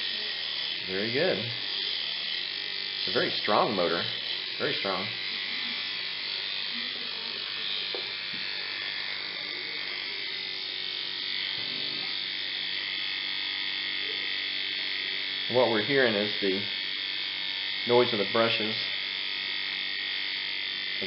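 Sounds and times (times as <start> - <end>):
electric motor running: 0.0 - 21.0.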